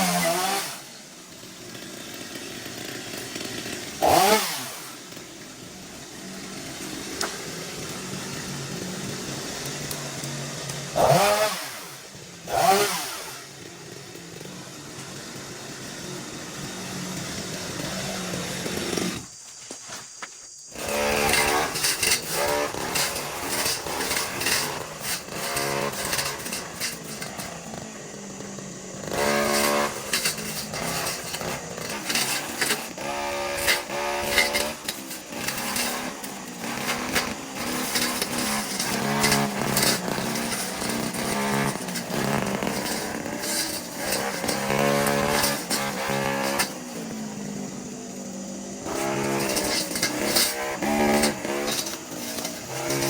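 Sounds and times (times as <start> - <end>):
small two-stroke engine revving: 0.0 - 19.4, 20.7 - 53.0.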